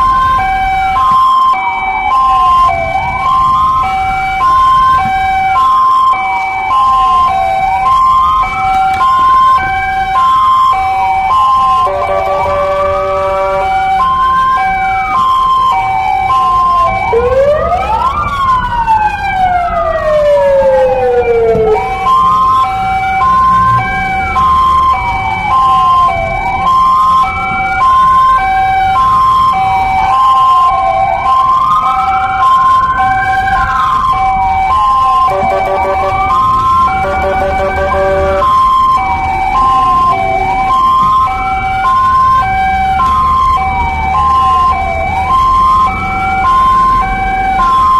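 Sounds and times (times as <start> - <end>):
deep slow siren wail: 0.0 - 47.9
electronic siren wail: 0.0 - 47.9
road and engine rumble: 0.0 - 47.9
two-tone siren: 0.0 - 47.9.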